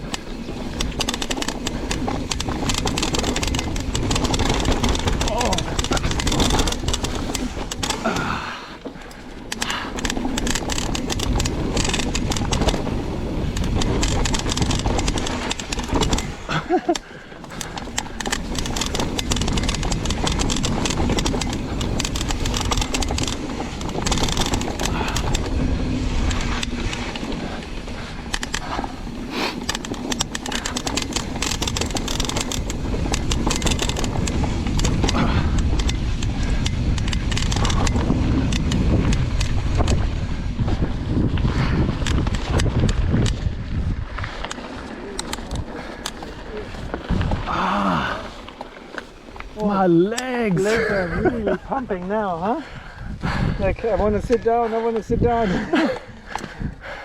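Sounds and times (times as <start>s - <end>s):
bike clattering: 0.0s - 52.8s
tyres rumbling on dirt: 0.0s - 57.0s
wind buffeting microphone: 0.0s - 57.0s.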